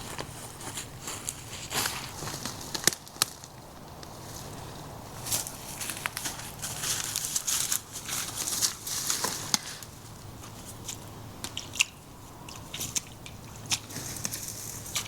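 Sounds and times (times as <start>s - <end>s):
dry twigs crunching and crackling: 0.0s - 4.6s, 5.2s - 15.0s.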